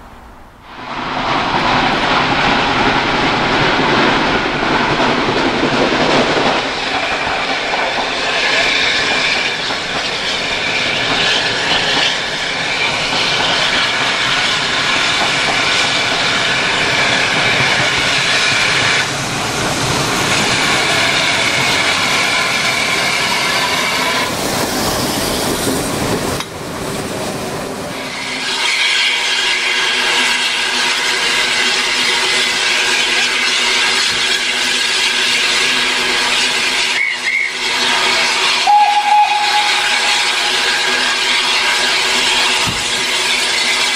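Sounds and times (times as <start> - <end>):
steam locomotive hissing: 0.6 - 43.9
train wheels squealing on rails: 6.4 - 43.9.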